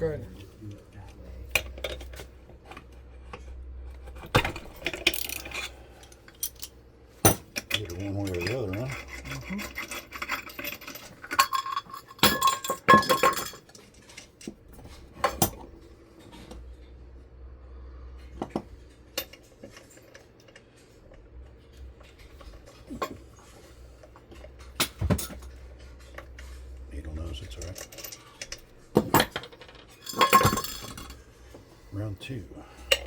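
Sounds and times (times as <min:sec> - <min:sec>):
metal parts clinking and clattering: 0:01.4 - 0:02.8, 0:04.0 - 0:16.6, 0:18.3 - 0:31.3, 0:32.8 - 0:33.0.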